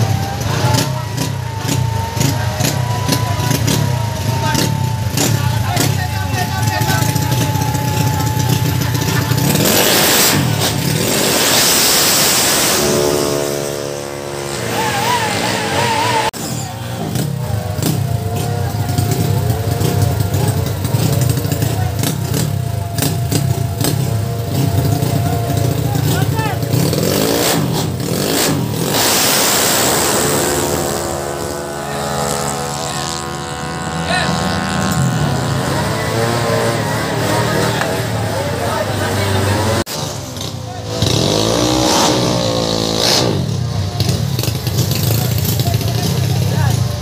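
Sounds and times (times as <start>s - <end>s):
scooter engines revving: 0.0s - 47.0s.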